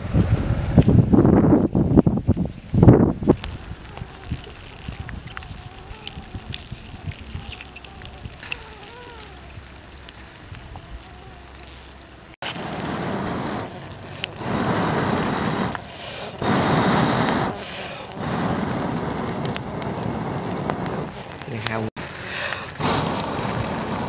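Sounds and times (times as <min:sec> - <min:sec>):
fire crackling pops: 0:00.0 - 0:24.0
fire hissing and rushing: 0:00.0 - 0:24.0.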